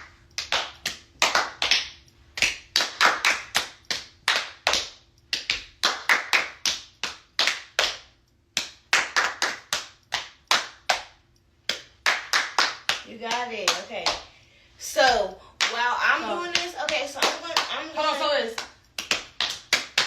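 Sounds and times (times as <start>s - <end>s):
hands clapping rhythmically: 0.0s - 20.0s.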